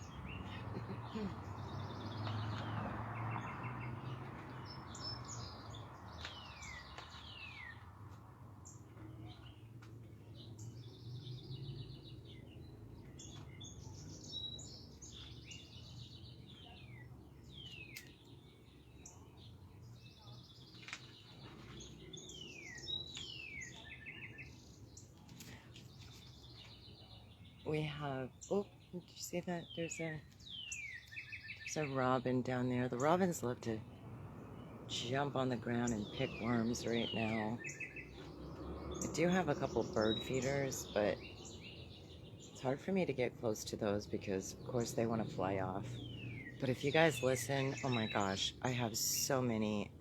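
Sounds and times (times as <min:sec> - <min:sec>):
songbirds singing: 0:00.0 - 0:50.0.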